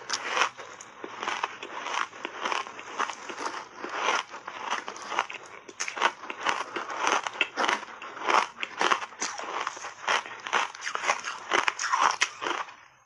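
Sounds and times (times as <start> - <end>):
chewing crunchy ice: 0.0 - 13.0.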